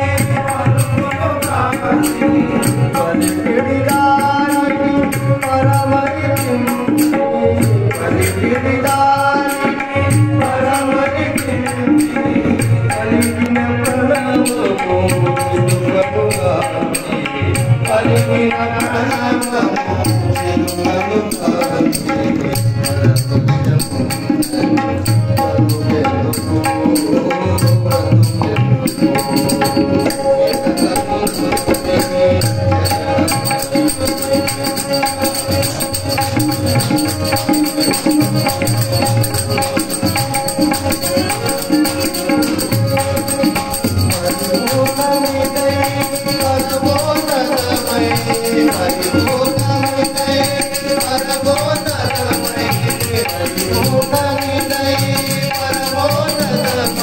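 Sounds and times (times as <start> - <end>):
man singing devotional song: 0.0 - 57.0
tabla rhythm: 0.0 - 57.0.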